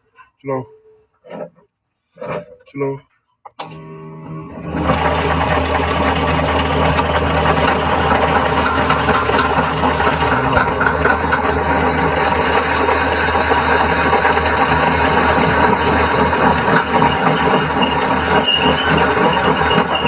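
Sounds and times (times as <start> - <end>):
metal lathe humming and rattling: 3.6 - 20.0.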